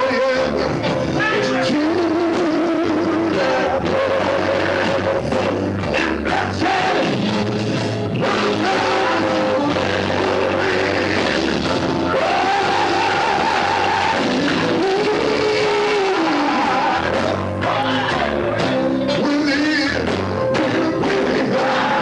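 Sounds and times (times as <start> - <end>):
electric guitars: 0.0 - 22.0
man singing gospel: 0.0 - 22.0.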